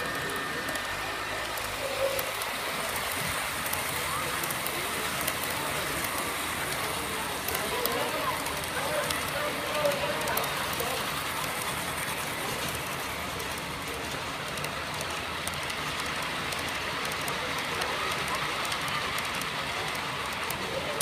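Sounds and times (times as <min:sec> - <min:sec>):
model train wheels rattling: 0:00.0 - 0:21.0.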